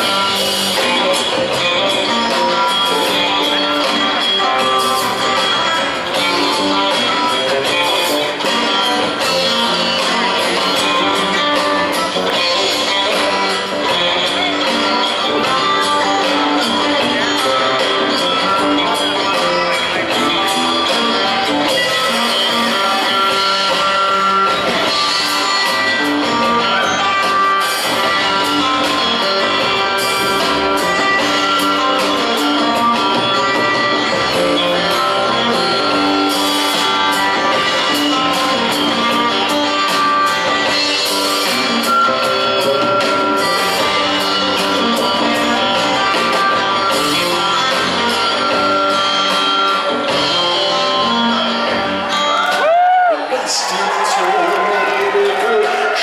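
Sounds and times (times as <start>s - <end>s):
upright double bass: 0.0s - 52.2s
drum kit with cymbals: 0.0s - 53.7s
electric guitar: 0.0s - 56.0s.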